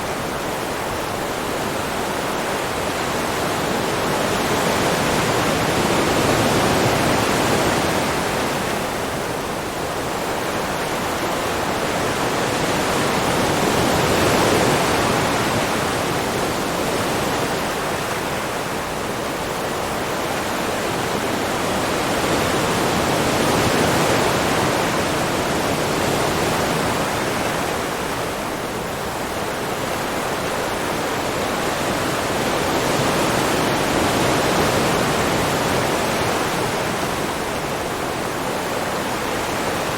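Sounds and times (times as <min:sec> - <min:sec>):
ocean waves on a shore: 0:00.0 - 0:39.9.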